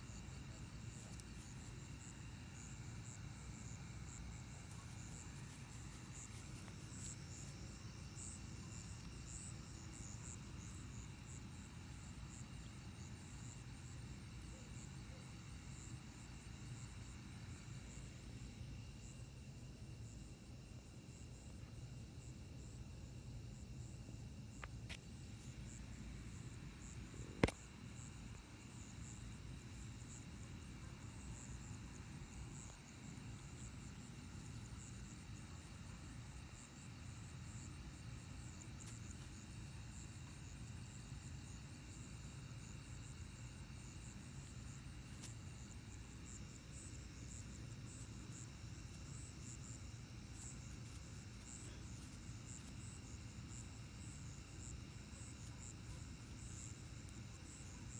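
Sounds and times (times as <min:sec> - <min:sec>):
crickets and insects chirping: 0:00.0 - 0:57.9.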